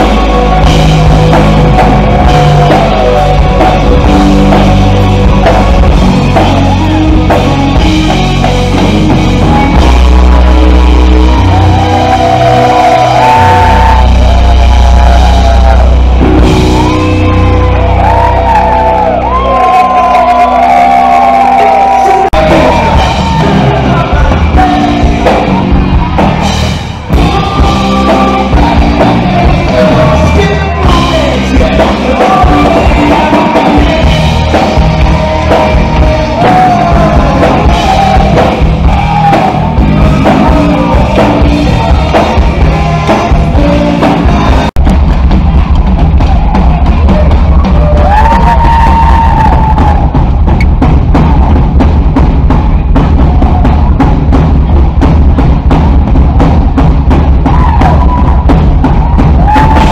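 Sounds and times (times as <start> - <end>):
loud live hard rock band: 0.0 - 59.9.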